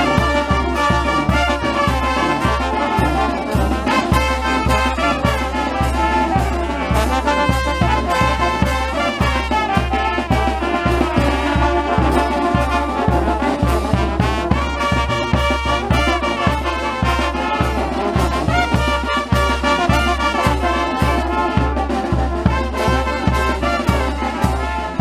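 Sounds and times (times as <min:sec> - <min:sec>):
brass band playing: 0:00.0 - 0:25.0
steady low drum beat: 0:00.0 - 0:25.0.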